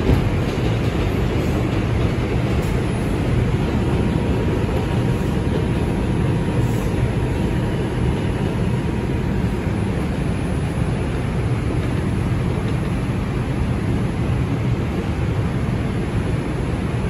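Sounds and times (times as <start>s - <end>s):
subway car wheels rumbling on rail: 0.0s - 17.0s.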